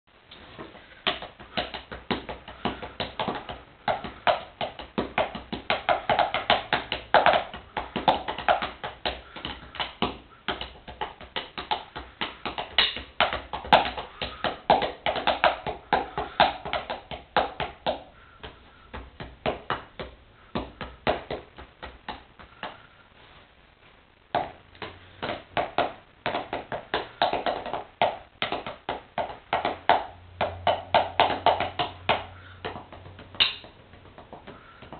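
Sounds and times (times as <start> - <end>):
drumsticks tapping on sneakers: 0.3 - 22.9, 24.3 - 34.9.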